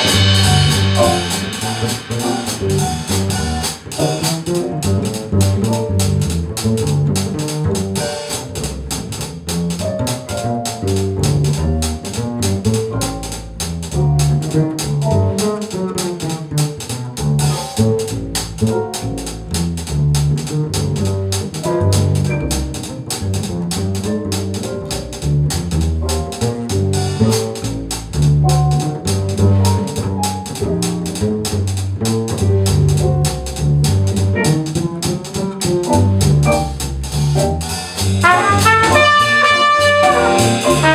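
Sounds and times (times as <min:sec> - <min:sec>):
cymbals swing beat: 0:00.0 - 0:40.9
upright bass plucked: 0:00.0 - 0:40.9.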